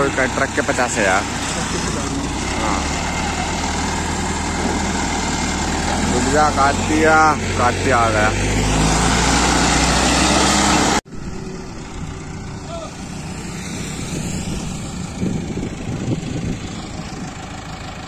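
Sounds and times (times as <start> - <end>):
crane diesel engine running: 0.0 - 18.0
outdoor noise: 0.0 - 18.0
steady engine rumble: 0.0 - 18.0.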